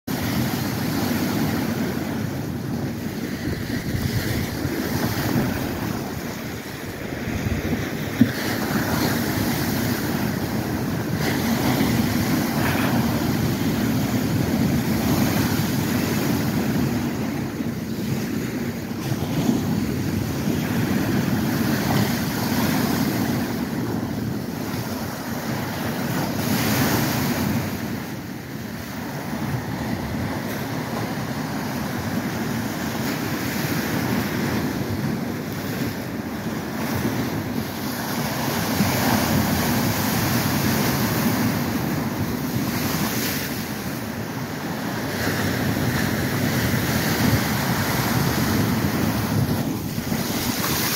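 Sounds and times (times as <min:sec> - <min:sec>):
waves breaking on shore: 0:00.1 - 0:50.9
wind blowing across microphone: 0:00.1 - 0:50.9.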